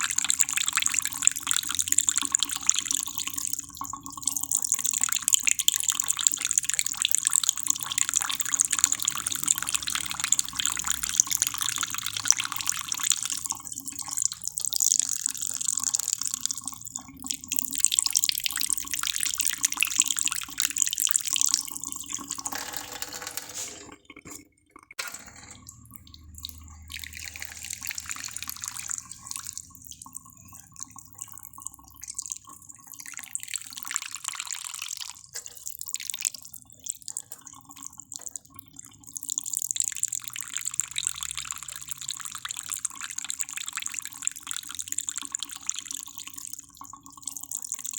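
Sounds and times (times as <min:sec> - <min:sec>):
running water dripping: 0:00.0 - 0:22.5, 0:24.0 - 0:47.9.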